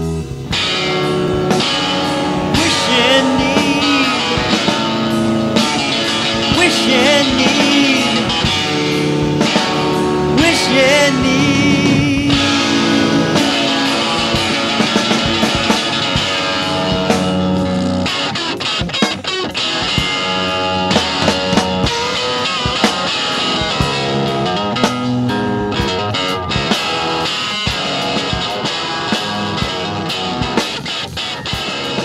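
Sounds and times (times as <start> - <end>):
rock music with guitar: 0.0 - 32.0.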